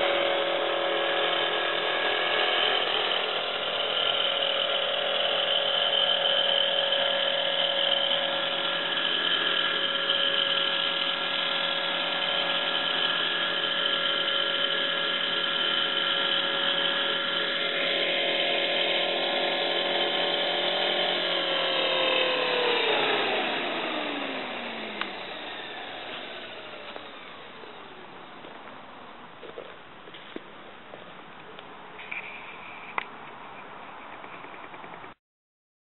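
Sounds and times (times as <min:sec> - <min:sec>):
rc helicopter motor whine: 0:00.0 - 0:30.4, 0:32.0 - 0:35.1.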